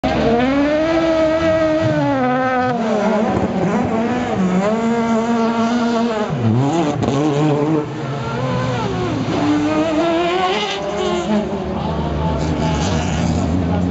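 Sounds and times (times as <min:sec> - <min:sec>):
race car engines revving: 0:00.0 - 0:13.9.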